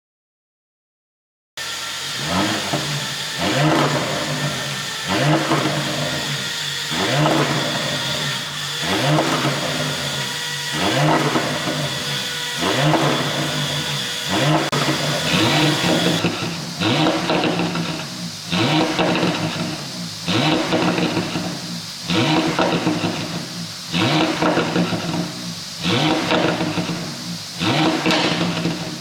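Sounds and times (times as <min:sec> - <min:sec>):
car engine revving: 0:01.6 - 0:29.0
exhaust crackling and popping: 0:01.6 - 0:29.0.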